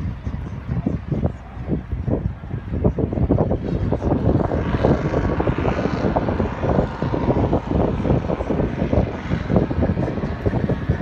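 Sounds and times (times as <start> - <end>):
motorboat engines: 0.0 - 11.0
wind buffeting microphone: 0.0 - 11.0.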